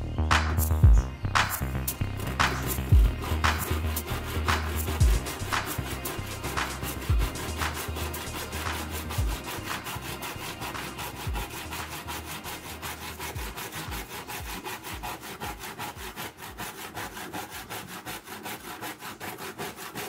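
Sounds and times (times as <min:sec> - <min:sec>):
hand saw cutting wood: 0:01.4 - 0:20.0.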